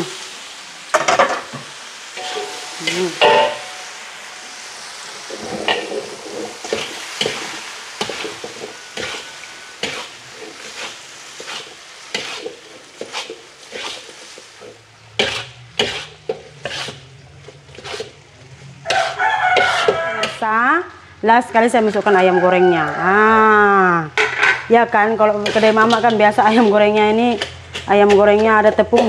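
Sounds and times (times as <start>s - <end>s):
noodles sizzling: 0.0s - 29.0s
metal spatula scraping wok: 2.2s - 20.7s, 21.4s - 23.0s, 24.2s - 29.0s.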